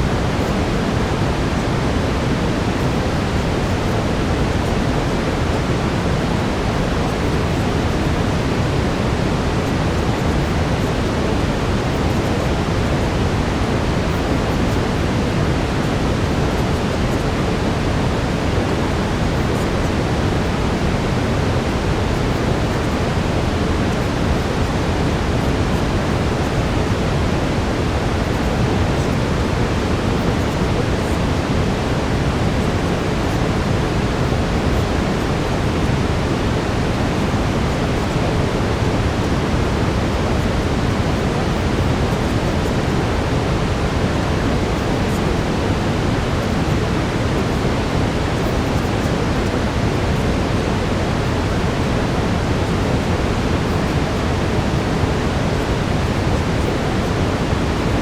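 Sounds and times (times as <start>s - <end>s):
brown noise: 0.0s - 58.0s.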